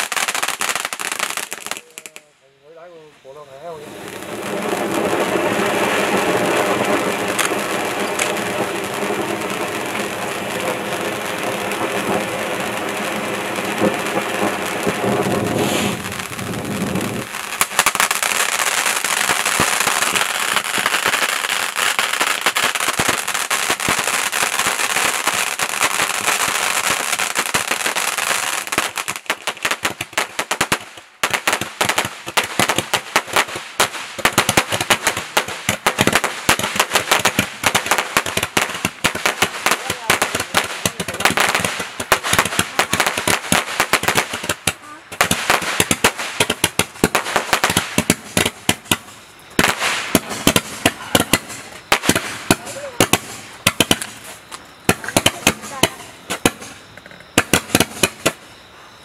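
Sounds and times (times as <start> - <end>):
firework fountain hissing: 0.0 - 2.2, 2.9 - 59.0
firework shots and crackling pops: 0.0 - 2.3, 3.7 - 58.7.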